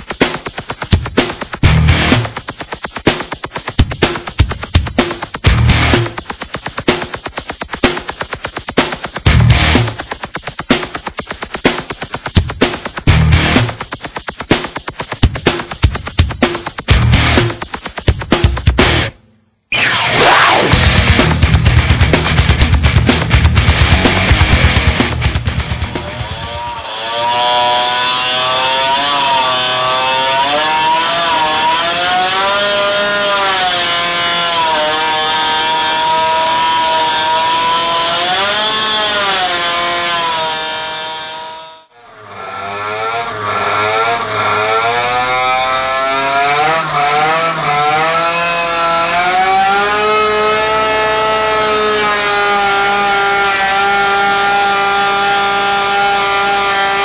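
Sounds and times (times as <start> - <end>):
two-stroke engine revving: 0.0 - 19.2, 20.2 - 57.0.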